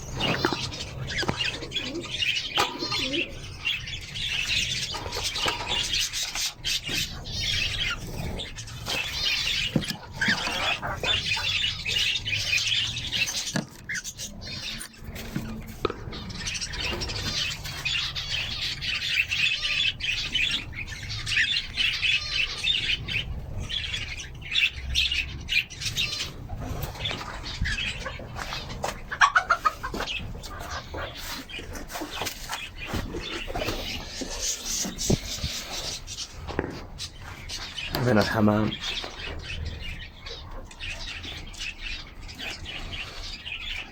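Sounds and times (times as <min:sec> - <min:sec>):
small birds chirping and twittering: 0:00.0 - 0:43.9.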